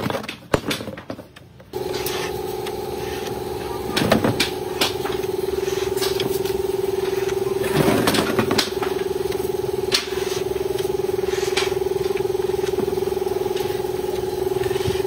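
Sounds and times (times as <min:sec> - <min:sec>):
pitched mechanical hum: 0:00.0 - 0:15.0.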